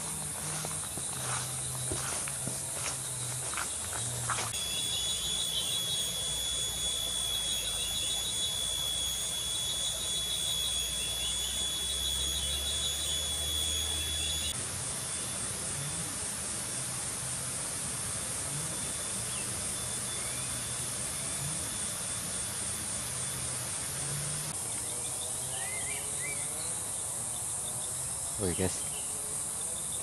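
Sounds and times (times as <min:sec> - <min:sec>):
high hiss of insects: 0:00.0 - 0:30.0
insect pulsing trill: 0:00.0 - 0:30.0.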